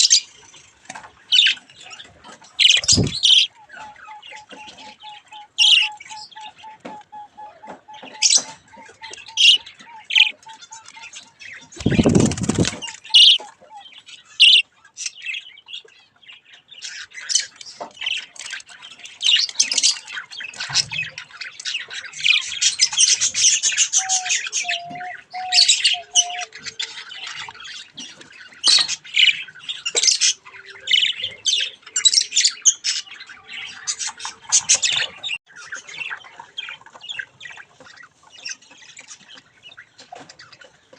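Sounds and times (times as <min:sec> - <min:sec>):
budgies chattering and squawking: 0:00.0 - 0:40.9.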